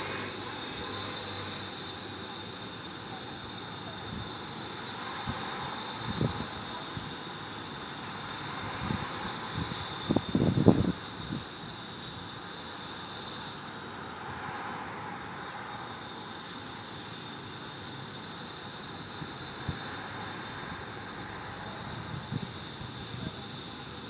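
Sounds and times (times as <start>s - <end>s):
distant city traffic rumble: 0.0s - 24.0s.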